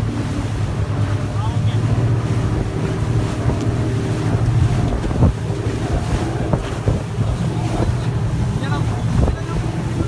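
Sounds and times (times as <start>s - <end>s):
churning wake water: 0.0s - 10.0s
motorboat engine running: 0.0s - 10.0s
wind buffeting microphone: 0.0s - 10.0s.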